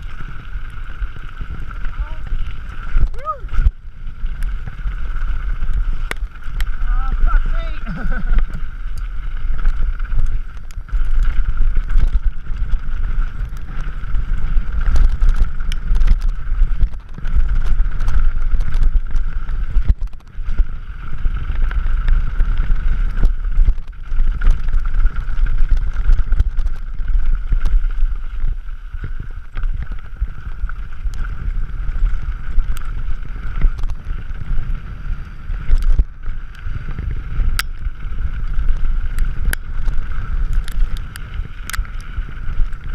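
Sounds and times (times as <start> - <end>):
bike rattling over stones: 0.0 - 42.9
wind buffeting microphone: 0.0 - 42.9.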